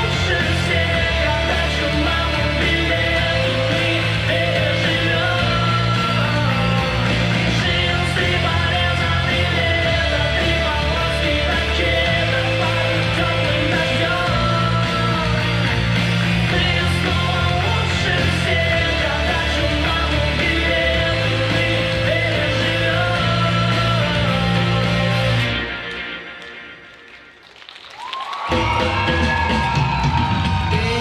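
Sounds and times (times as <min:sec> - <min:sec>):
heavy bass line: 0:00.0 - 0:25.7
dance song with singing: 0:00.0 - 0:26.8, 0:28.5 - 0:31.0.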